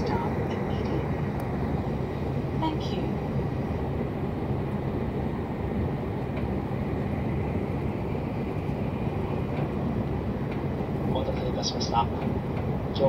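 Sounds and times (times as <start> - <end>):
train rumble inside passenger car: 0.0 - 13.0.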